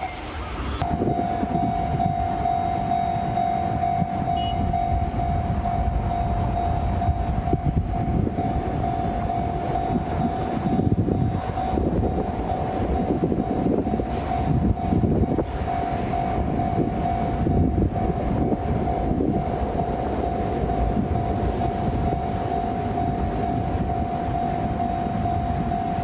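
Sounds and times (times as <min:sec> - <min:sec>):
level-crossing alarm ringing: 0:00.0 - 0:26.0
train wheels on rails: 0:00.0 - 0:26.0.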